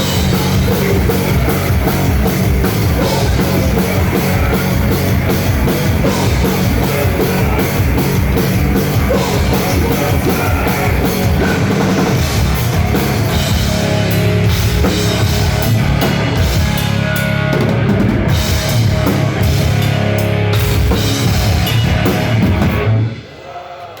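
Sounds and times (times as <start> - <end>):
heavy metal band playing live: 0.0 - 23.5
pounding drum kit: 0.0 - 24.0.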